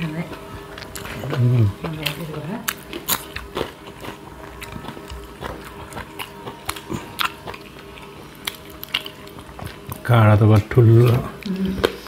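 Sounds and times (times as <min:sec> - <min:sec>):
chewing and wet mouth smacks: 0:00.7 - 0:12.0.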